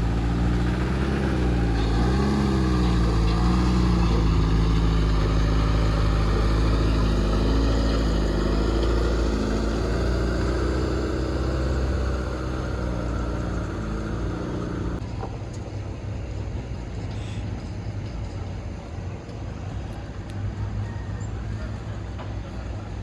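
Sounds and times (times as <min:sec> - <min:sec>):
construction machine diesel engine: 0:00.0 - 0:23.0.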